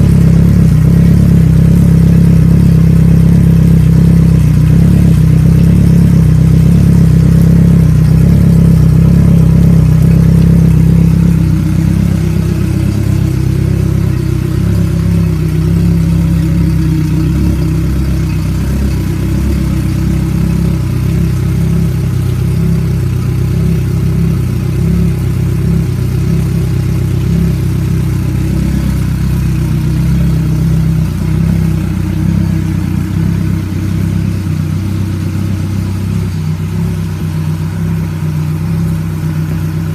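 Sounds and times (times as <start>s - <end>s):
outboard engine running: 0.0s - 39.9s.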